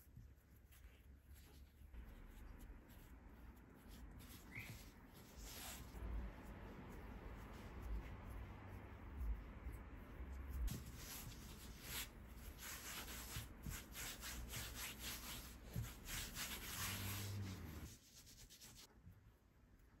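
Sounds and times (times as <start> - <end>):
hands rubbing bread dough: 0.0 - 19.0.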